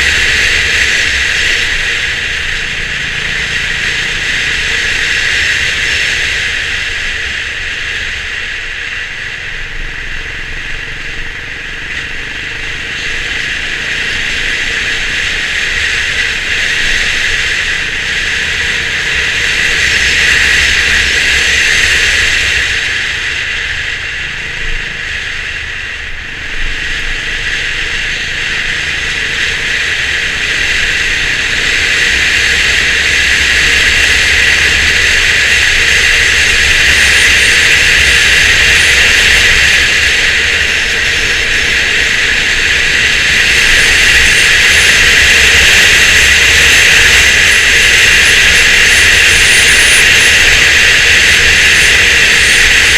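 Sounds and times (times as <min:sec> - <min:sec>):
motorcycle engine running: 0:00.0 - 0:52.9
wind and road noise: 0:00.0 - 0:52.9.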